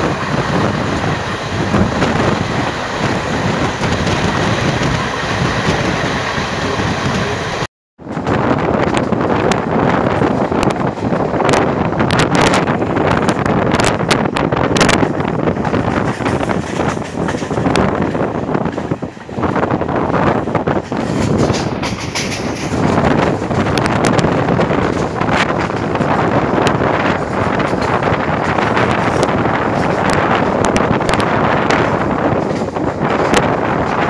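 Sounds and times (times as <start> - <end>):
train wheel and wind rush: 0.0 - 34.0
wheels clicking on rails: 0.0 - 34.0
wind buffeting microphone: 0.0 - 34.0.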